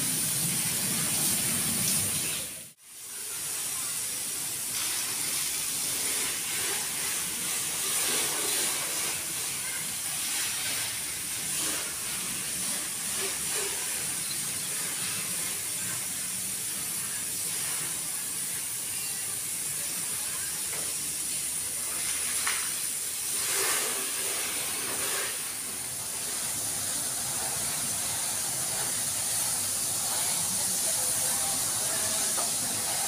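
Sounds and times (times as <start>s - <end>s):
water spraying: 0.0s - 33.0s.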